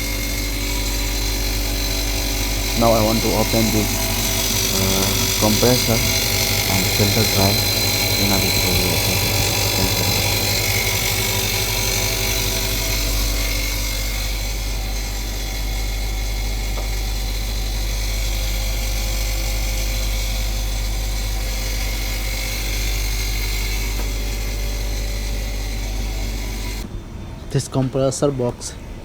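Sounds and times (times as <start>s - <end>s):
refrigeration compressor humming: 0.0s - 29.0s.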